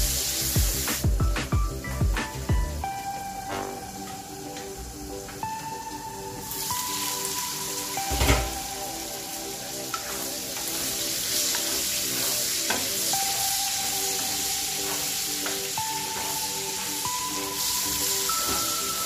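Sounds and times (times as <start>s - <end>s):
meat sizzling in a wok: 0.0s - 19.0s.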